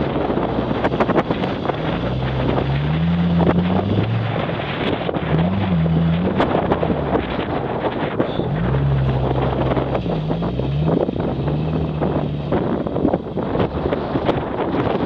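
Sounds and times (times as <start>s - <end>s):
van engine revving: 0.0s - 15.0s
wind buffeting microphone: 0.0s - 15.0s.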